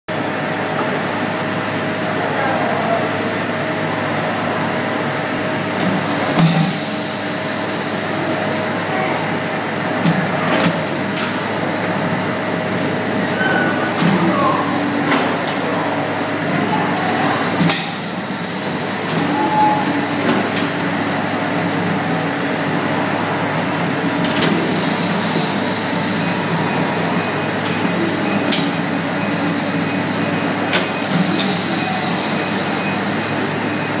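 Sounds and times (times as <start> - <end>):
machinery humming: 0.1 - 34.0.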